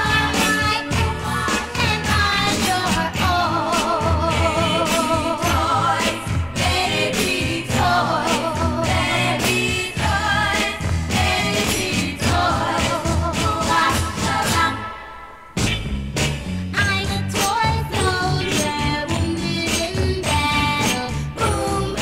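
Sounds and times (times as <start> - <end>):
drums and bass beat: 0.0 - 14.8, 15.5 - 22.0
female voices singing: 0.0 - 14.9, 16.8 - 22.0.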